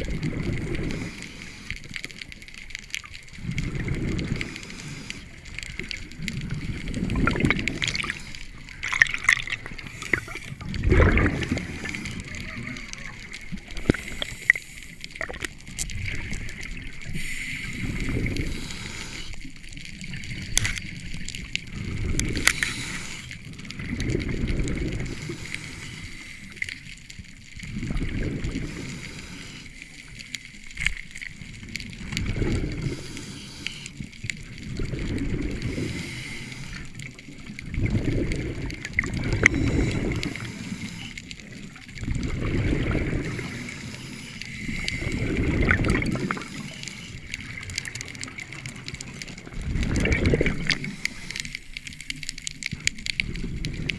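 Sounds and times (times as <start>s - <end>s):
exhaled bubbles gurgling underwater: 0.0s - 53.9s.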